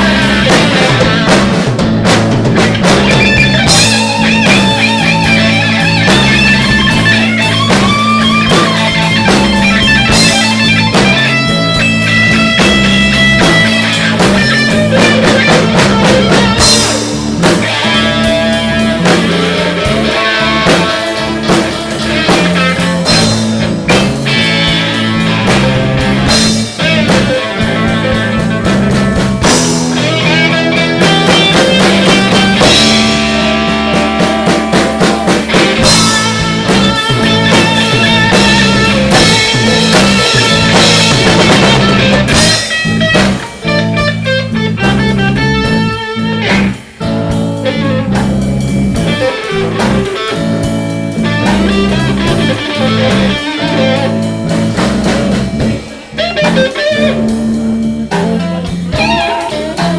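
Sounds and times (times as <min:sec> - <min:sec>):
bass guitar: 0:00.0 - 0:59.9
drum kit: 0:00.0 - 0:59.9
electric guitar lead: 0:00.0 - 0:59.9.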